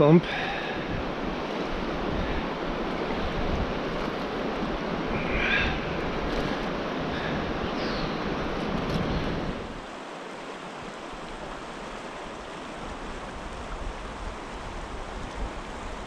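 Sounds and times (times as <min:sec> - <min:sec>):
fast river current rushing: 0:00.0 - 0:16.0.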